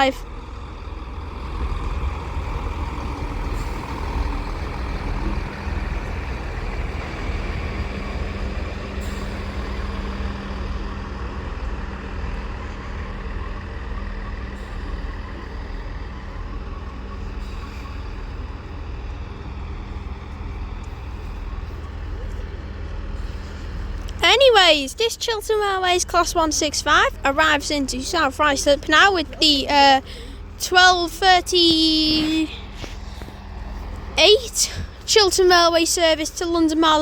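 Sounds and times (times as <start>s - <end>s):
diesel train drone: 0.0s - 37.0s.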